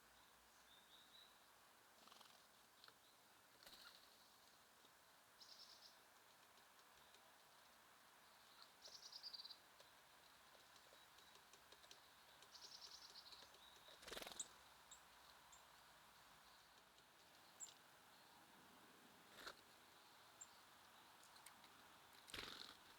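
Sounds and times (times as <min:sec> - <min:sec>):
songbirds trilling and chirping: 0:00.0 - 0:22.9.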